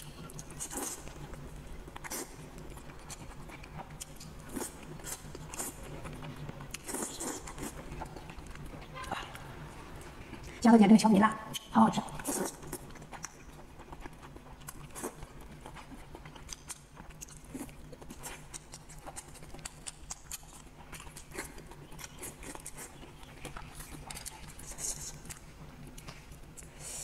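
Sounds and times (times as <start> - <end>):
wet chewing and sucking: 0.0 - 10.6, 11.5 - 27.0.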